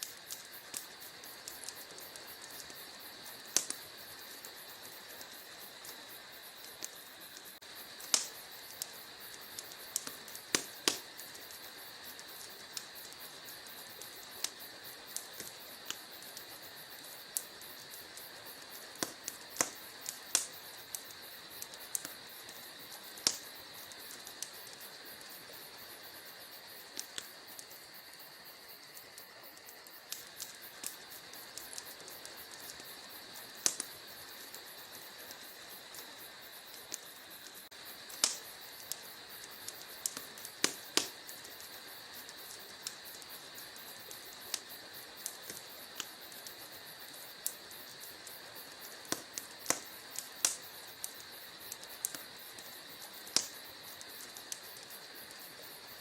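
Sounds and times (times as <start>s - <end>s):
steady high hiss: 0.0s - 56.0s
wood fire crackling and popping: 0.0s - 56.0s.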